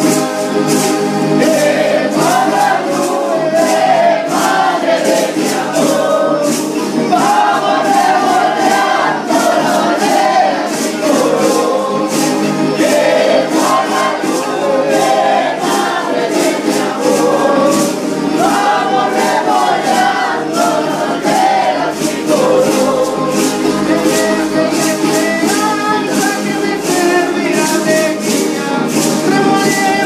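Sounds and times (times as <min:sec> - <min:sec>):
group singing in chorus: 0:00.0 - 0:30.0
strummed guitars: 0:00.0 - 0:30.0.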